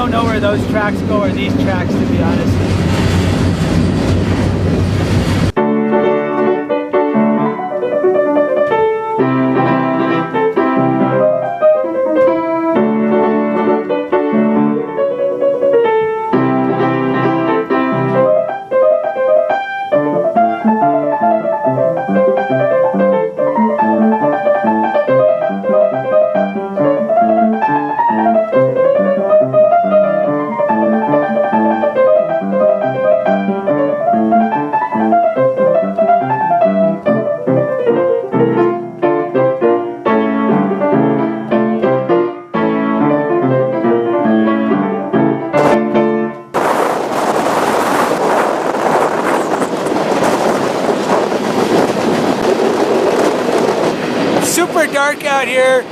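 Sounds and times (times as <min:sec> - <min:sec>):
solo piano music: 0:05.5 - 0:55.9.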